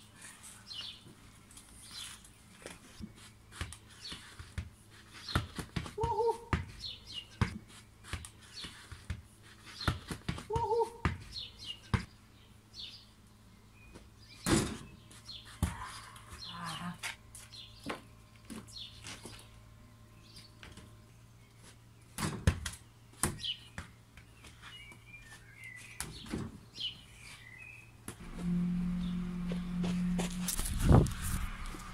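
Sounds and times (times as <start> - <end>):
songbirds chirping: 0.0 - 4.5, 5.1 - 10.0, 10.6 - 30.2.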